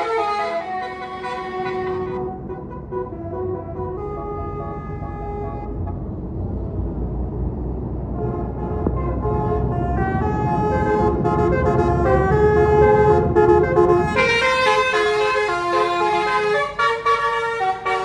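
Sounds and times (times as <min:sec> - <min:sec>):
bus horn playing a tune: 0:00.0 - 0:05.9, 0:08.1 - 0:18.0
bus engine rumble: 0:00.0 - 0:18.0.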